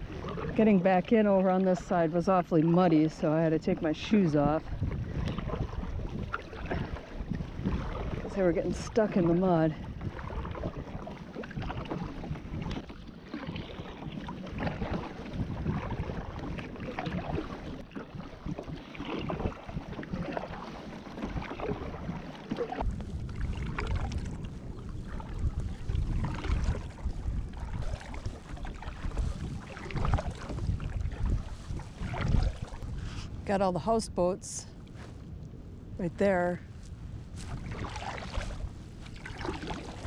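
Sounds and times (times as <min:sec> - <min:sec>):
kayak paddle splashing water: 0:00.0 - 0:33.6, 0:37.3 - 0:40.0
water running off paddle: 0:00.0 - 0:34.6, 0:37.4 - 0:40.0
wind rumble on microphone: 0:00.0 - 0:40.0.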